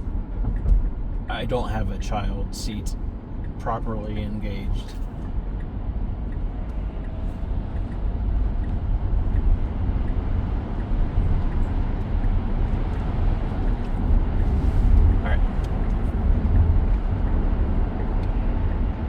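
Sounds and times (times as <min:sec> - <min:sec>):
tyre and wind rumble in car: 0:00.0 - 0:19.0.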